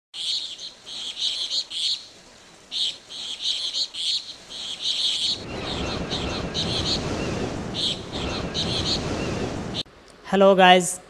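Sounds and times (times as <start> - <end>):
birds chirping: 0.2 - 9.9.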